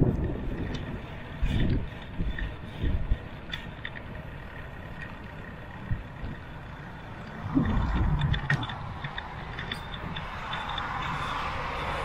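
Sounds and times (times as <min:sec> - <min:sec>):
bike clicks and rattles: 0:00.0 - 0:12.0
low rumble with rattling: 0:00.0 - 0:12.0
tyres rolling on asphalt: 0:00.0 - 0:12.0
wind buffeting microphone: 0:00.0 - 0:12.0.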